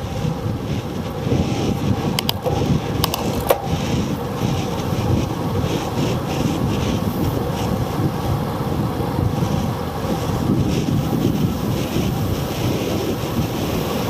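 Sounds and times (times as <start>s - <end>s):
tyre noise on asphalt: 0.0s - 14.0s
wind buffeting microphone: 0.0s - 14.0s.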